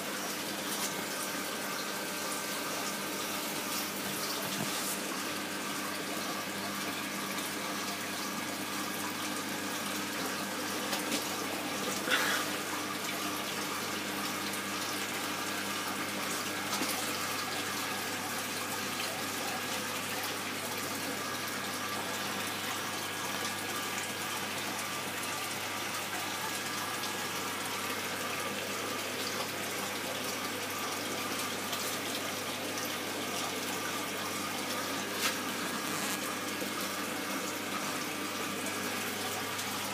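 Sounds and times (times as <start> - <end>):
pump hum: 0.0 - 39.9
running and splashing water: 0.0 - 39.9.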